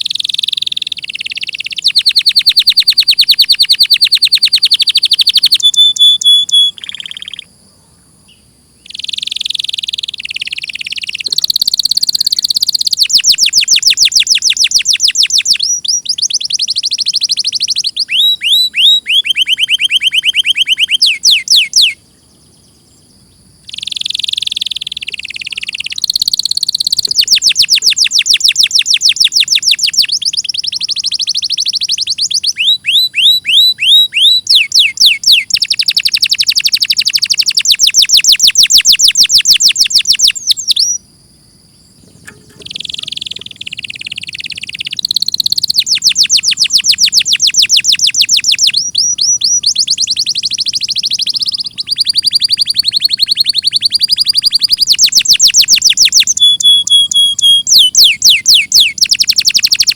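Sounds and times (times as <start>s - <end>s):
canary singing trills: 0.0s - 41.1s, 41.7s - 59.9s.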